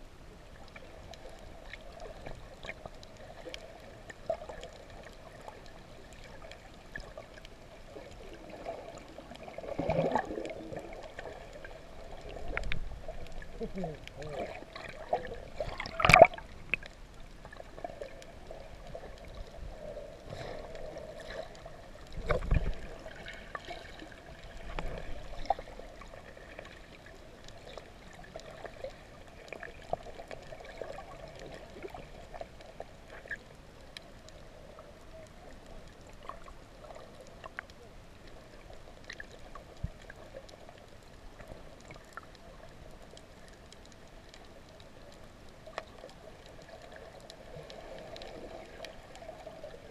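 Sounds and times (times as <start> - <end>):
muffled underwater hiss: 0.0 - 49.9
small clicks underwater: 0.2 - 49.9.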